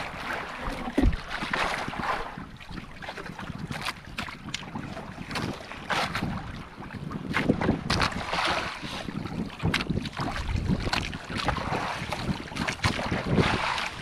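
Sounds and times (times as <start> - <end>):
water sloshing against boat: 0.0 - 14.0
wind buffeting microphone: 0.0 - 14.0.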